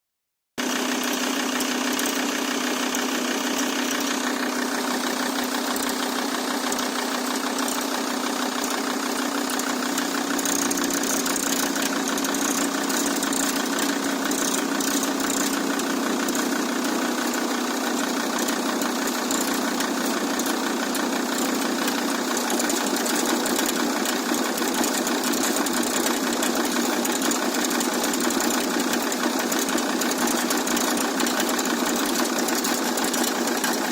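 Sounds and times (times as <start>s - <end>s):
diesel engine idling: 0.8s - 33.9s.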